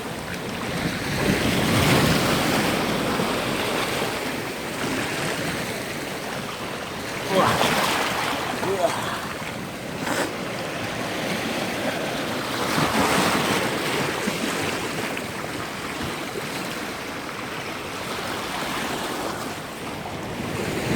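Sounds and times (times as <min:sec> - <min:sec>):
sea waves breaking on shore: 0:00.0 - 0:20.9.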